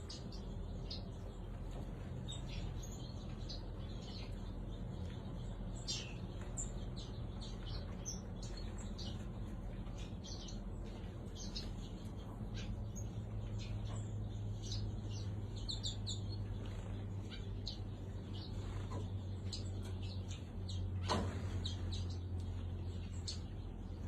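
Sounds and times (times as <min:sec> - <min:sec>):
cage birds chirping: 0:00.0 - 0:24.0
steady low hum: 0:00.0 - 0:24.0.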